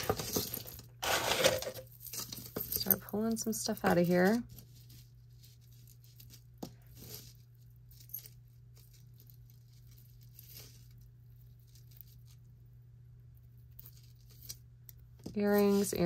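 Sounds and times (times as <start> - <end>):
jewelry clinking and rustling: 0.0 - 12.6, 13.4 - 16.0.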